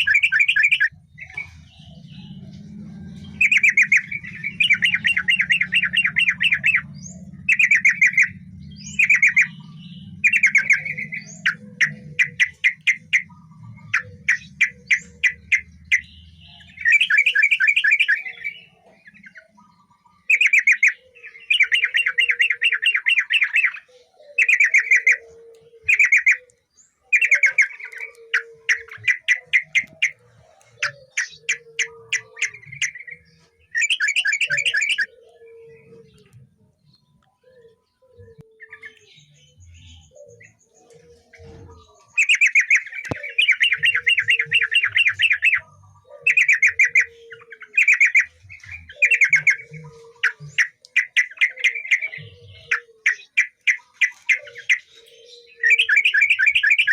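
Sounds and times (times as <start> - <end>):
bird chattering song: 0.0 - 56.9.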